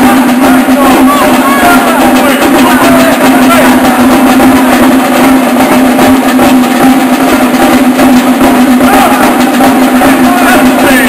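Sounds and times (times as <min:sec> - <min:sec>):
procession drums beating: 0:00.0 - 0:11.0.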